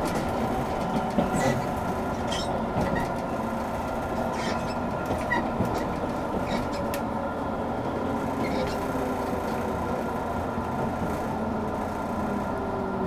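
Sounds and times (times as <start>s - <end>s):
train car hum: 0.0s - 13.0s.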